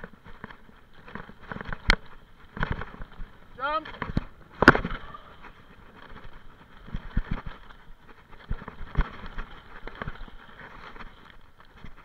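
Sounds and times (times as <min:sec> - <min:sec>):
bike knocking and rattling: 0:00.0 - 0:12.0
bike tyres on dirt: 0:00.0 - 0:12.0.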